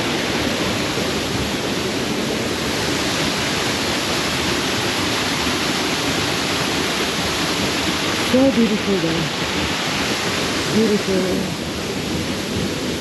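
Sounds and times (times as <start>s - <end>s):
river and waterfall roaring: 0.0s - 13.0s.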